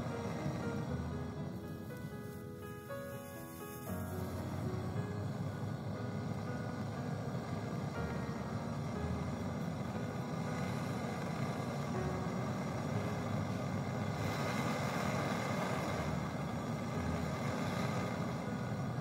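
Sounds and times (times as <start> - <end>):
gas torch burning: 0.0 - 19.0.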